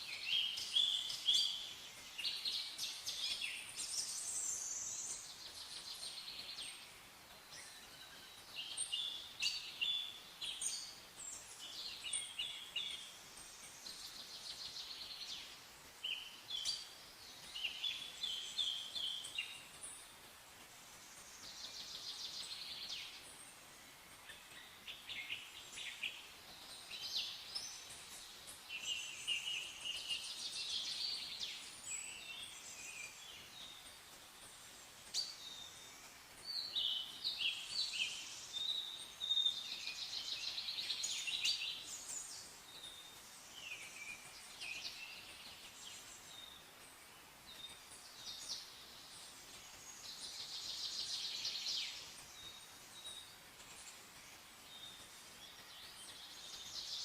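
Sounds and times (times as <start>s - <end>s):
faint background hiss: 0.0s - 57.0s
songbirds chirping and singing: 0.0s - 57.0s.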